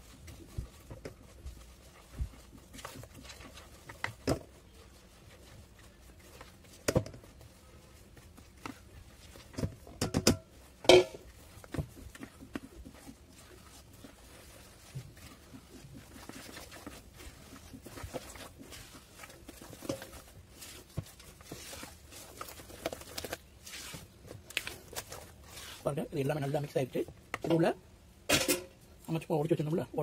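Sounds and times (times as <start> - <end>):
spoon stirring in a bowl: 0.0 - 26.8.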